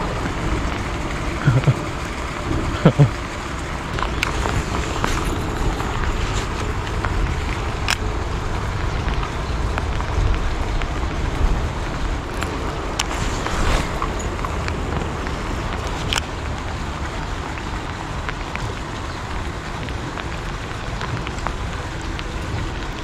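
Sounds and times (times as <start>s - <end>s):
low rumble: 0.0s - 23.0s
rain falling on water: 0.0s - 23.0s.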